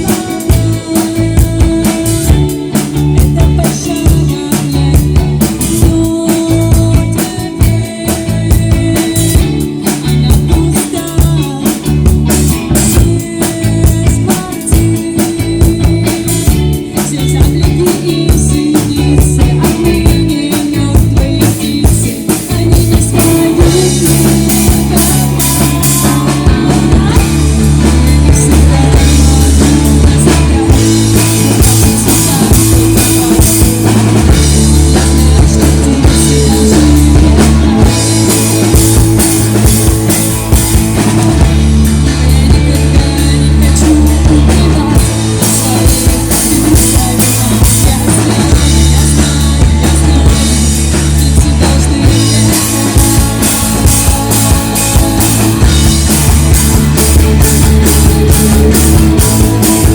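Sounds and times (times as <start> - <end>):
busy drum kit: 0.0 - 59.9
live rock band playing: 0.0 - 59.9
sustained bass notes: 0.0 - 59.9.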